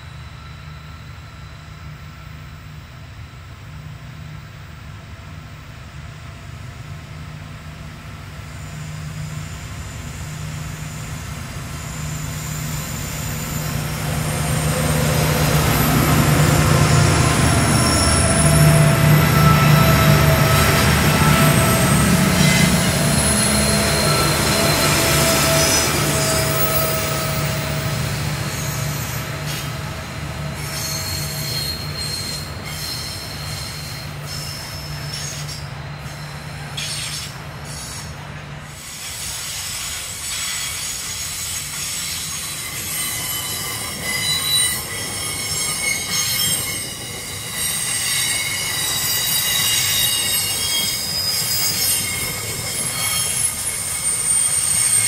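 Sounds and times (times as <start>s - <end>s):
train wheel squeal: 0.0s - 4.8s, 6.5s - 55.0s
diesel locomotive drone: 0.0s - 55.0s.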